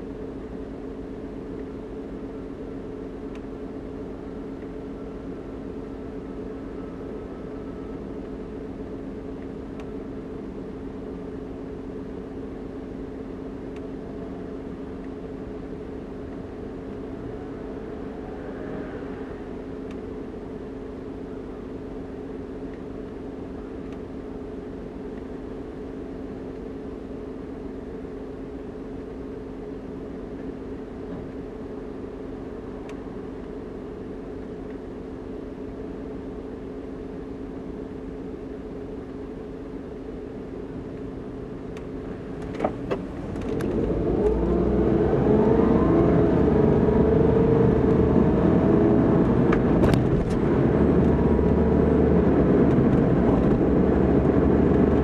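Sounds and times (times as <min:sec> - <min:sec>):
constant hum tones: 0:00.0 - 0:55.0
idling car interior drone: 0:00.0 - 0:55.0.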